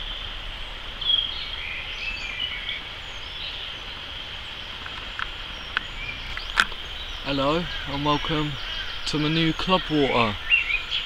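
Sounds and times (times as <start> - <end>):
high-pitched background hiss: 0.0 - 11.0
small birds chirping: 0.0 - 11.0.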